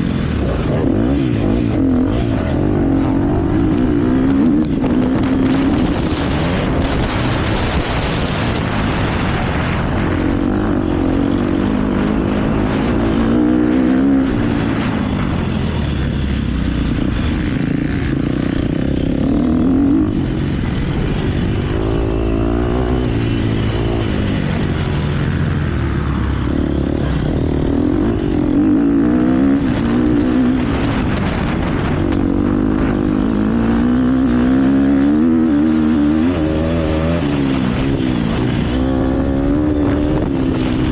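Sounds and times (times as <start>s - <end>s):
motocross bike engine revving: 0.0s - 15.0s, 15.7s - 40.9s
wind noise: 0.0s - 40.9s.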